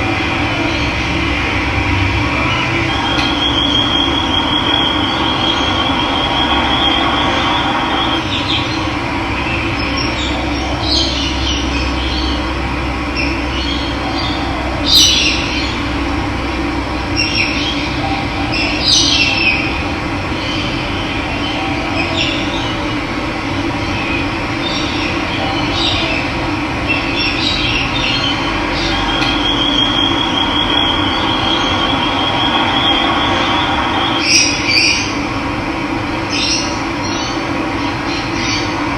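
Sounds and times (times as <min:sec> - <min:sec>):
birds trilling and chirping: 0:00.0 - 0:16.3, 0:17.0 - 0:35.3.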